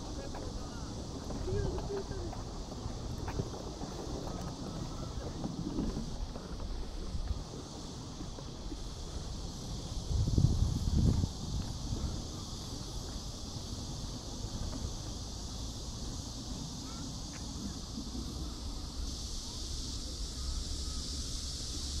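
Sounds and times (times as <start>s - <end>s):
high even hiss: 0.0s - 22.0s.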